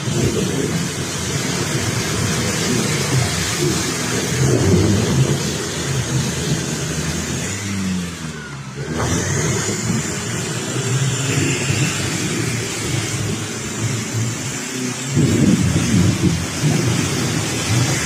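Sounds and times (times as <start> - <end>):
engine revving under load: 0.0 - 18.0
rough rumbling noise: 0.0 - 18.0.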